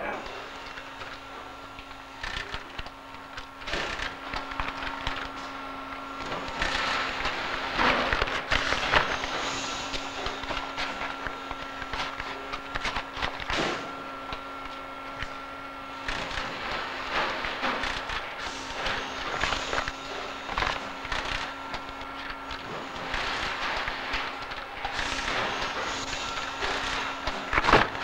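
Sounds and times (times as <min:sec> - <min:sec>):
factory machinery hum: 0:00.0 - 0:28.0.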